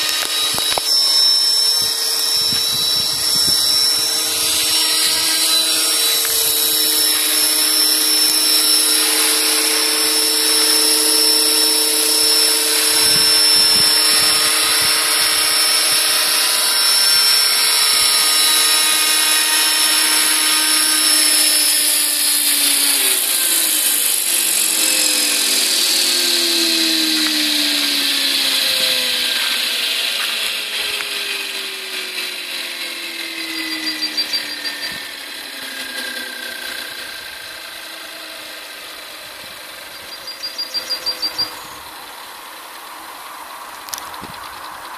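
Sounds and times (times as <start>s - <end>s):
model helicopter rotor whining: 0.0s - 44.9s.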